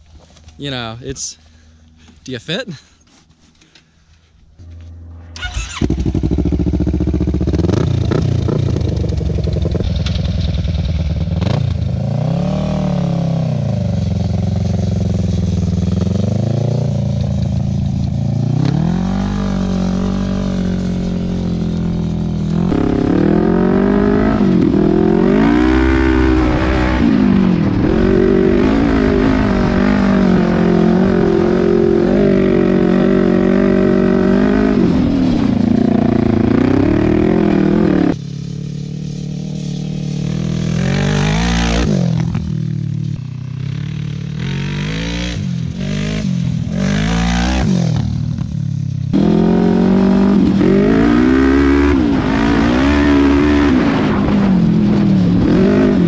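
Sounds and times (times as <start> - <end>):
motorcycle engine revving: 4.6 - 56.0.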